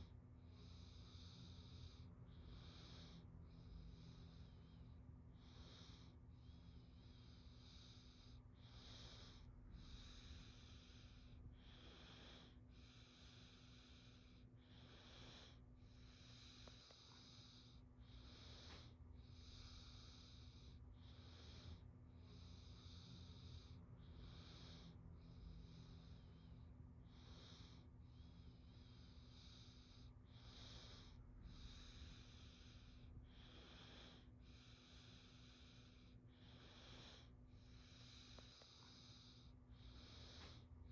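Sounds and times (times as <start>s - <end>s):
child breathing in sleep: 0.0s - 40.9s
faint low hum: 0.0s - 40.9s.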